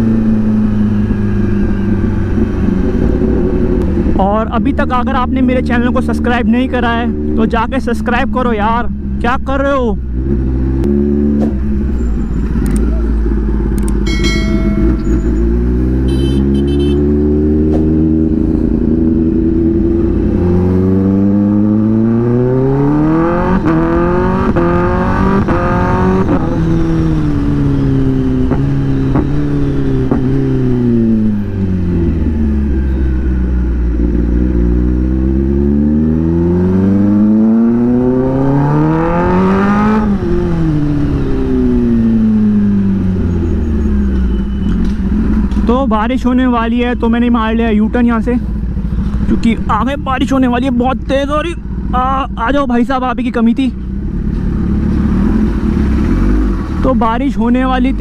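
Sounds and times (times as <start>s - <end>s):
motorcycle engine accelerating: 0.0s - 9.2s, 10.0s - 58.0s.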